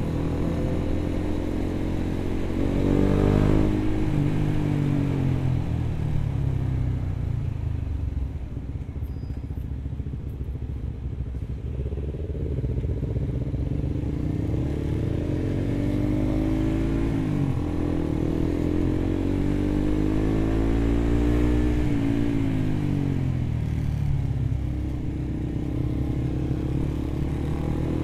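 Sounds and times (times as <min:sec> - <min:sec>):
motorcycle engine accelerating: 0:00.0 - 0:06.9, 0:09.9 - 0:28.0.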